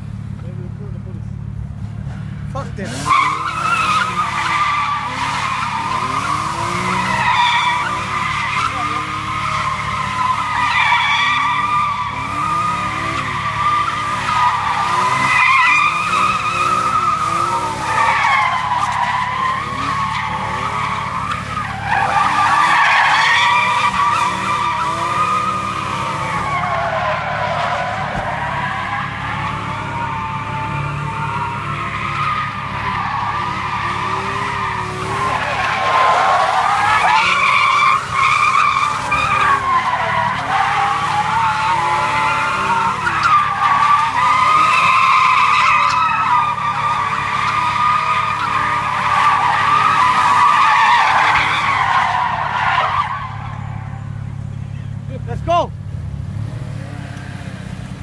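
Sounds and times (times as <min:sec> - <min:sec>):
car engine revving: 0:00.0 - 0:58.0
tyre squeal: 0:01.9 - 0:55.1.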